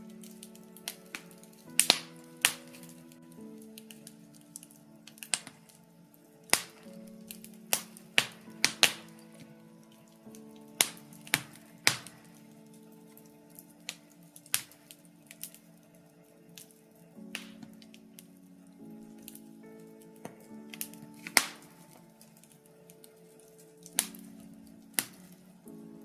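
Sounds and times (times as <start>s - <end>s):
soft synth chords: 0.0s - 26.0s
wood fire crackling and popping: 0.1s - 15.7s, 16.5s - 25.8s.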